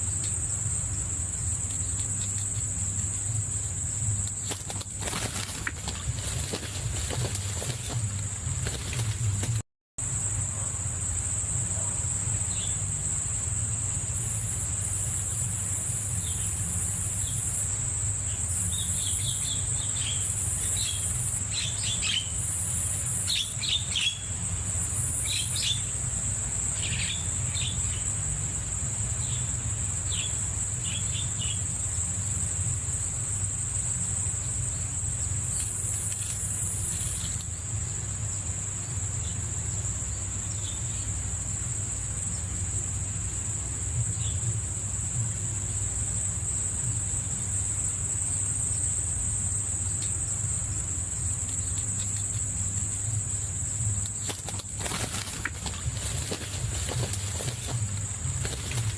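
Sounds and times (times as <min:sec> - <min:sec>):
crickets trilling: 0:00.0 - 0:58.9
low steady hum: 0:00.0 - 0:58.9.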